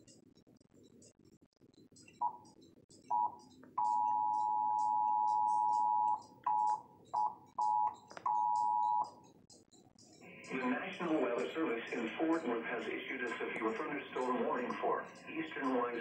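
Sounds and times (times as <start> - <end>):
two-tone alarm from television: 2.0 - 16.0.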